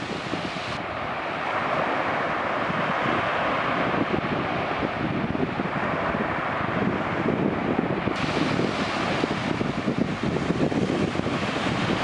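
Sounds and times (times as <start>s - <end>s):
small waves on sandy shore: 0.0s - 12.0s
wind buffeting microphone: 0.0s - 12.0s.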